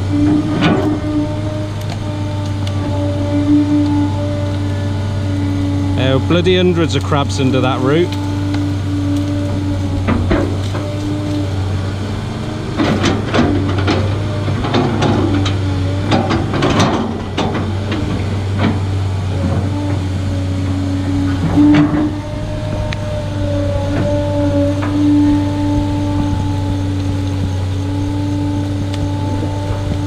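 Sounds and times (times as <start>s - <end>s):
excavator diesel engine: 0.0s - 30.0s
hydraulic whine: 0.0s - 30.0s.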